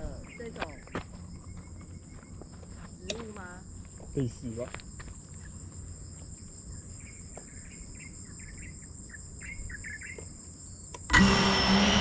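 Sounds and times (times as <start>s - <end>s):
insects calling high-pitched: 0.0s - 12.0s.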